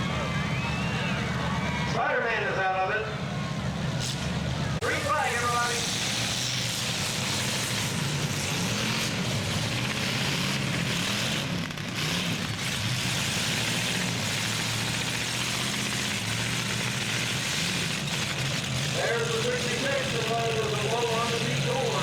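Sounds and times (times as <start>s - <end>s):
engines revving: 0.0s - 22.0s.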